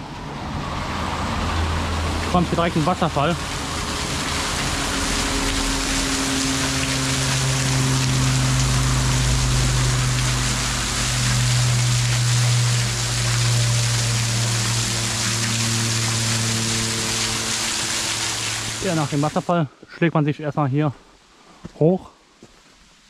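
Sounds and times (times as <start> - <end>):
vehicle engine humming: 0.0 - 19.5
waterfall roaring: 0.4 - 19.6.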